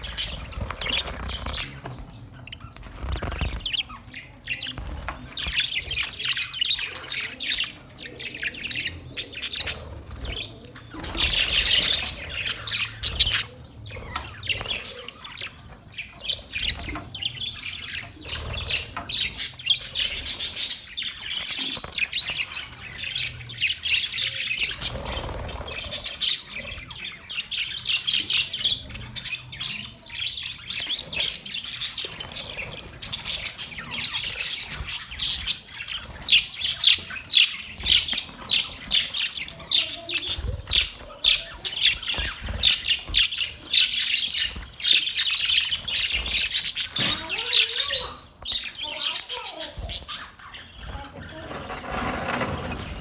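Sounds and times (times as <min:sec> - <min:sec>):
budgerigars chirping and chattering: 0:00.0 - 0:53.0.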